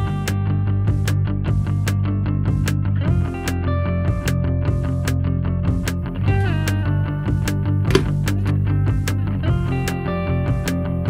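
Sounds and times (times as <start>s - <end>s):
guitar-led music with beat: 0.0s - 11.0s.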